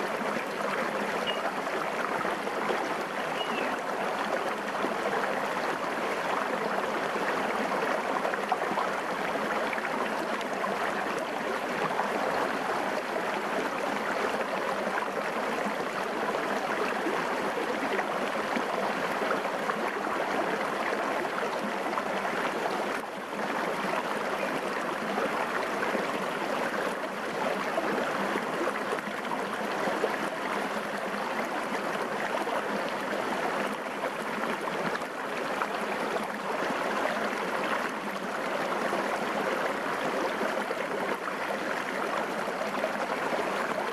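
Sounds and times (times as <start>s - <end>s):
stream running over rocks: 0.0s - 43.9s.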